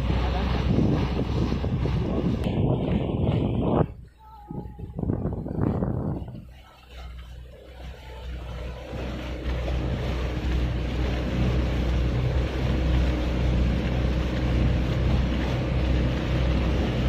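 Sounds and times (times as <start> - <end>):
motorboat engine humming: 0.0 - 17.0
water noise: 0.0 - 17.0
wind: 0.0 - 17.0.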